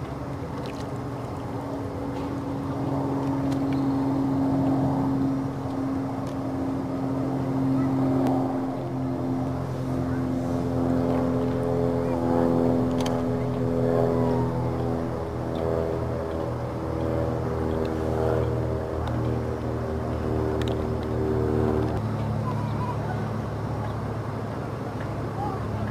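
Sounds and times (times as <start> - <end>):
motor humming: 0.7 - 25.1.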